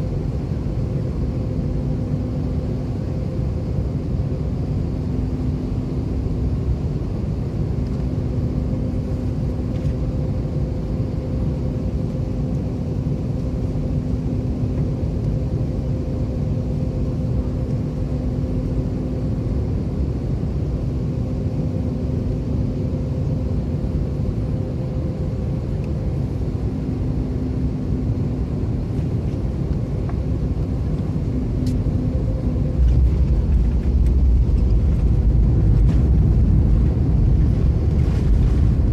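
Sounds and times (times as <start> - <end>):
aircraft engines and airflow rumble: 0.0 - 38.9.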